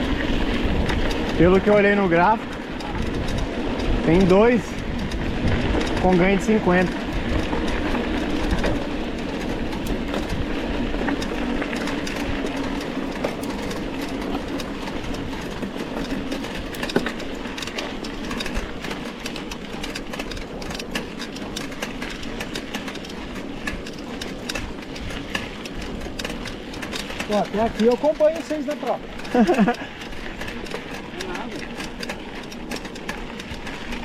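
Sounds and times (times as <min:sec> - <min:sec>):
bike clicks and rattles: 0:00.0 - 0:34.0
bike tyres on dirt trail: 0:00.0 - 0:34.0.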